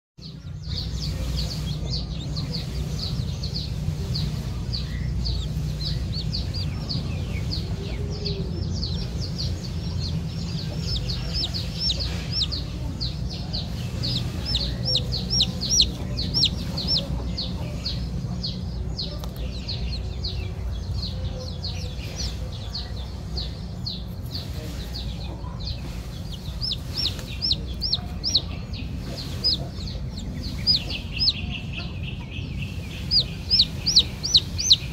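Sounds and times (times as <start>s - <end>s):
chicks peeping: 0.2s - 34.9s
low background rumble: 0.2s - 34.9s.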